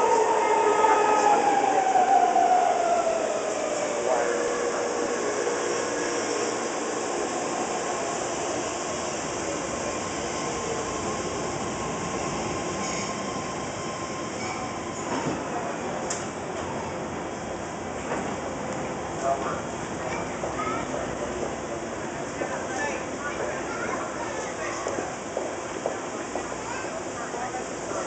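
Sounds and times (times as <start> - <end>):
rail and wheel noise: 0.0 - 28.0.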